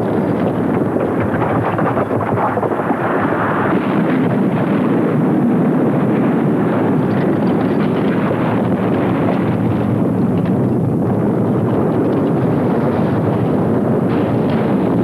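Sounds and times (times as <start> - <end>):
volcanic eruption rumbling roar: 0.0 - 15.0.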